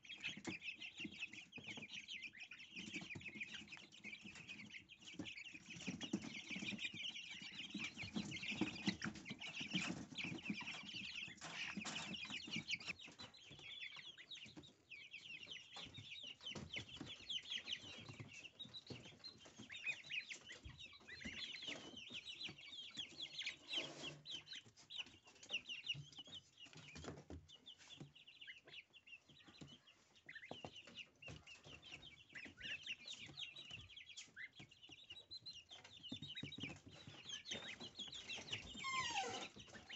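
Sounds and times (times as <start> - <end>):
goslings peeping: 0.0 - 39.9.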